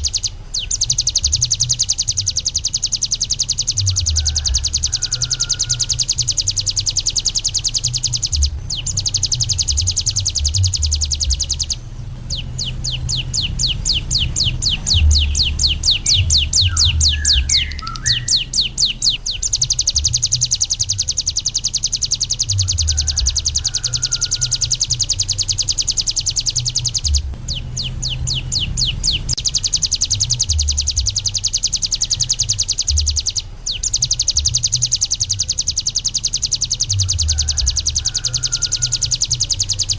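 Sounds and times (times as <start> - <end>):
bird singing high-pitched trill: 0.0 - 39.9.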